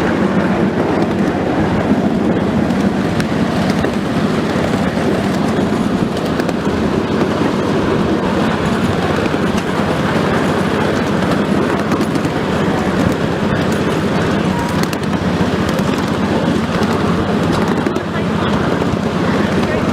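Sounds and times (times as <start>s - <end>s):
faint rail clicks: 0.0s - 19.9s
train wheels rumbling: 0.0s - 19.9s.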